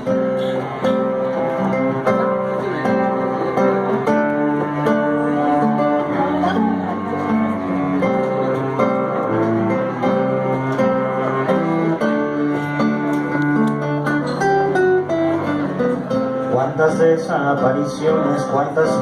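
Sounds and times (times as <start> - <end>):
acoustic guitar melodic run: 0.0 - 19.0.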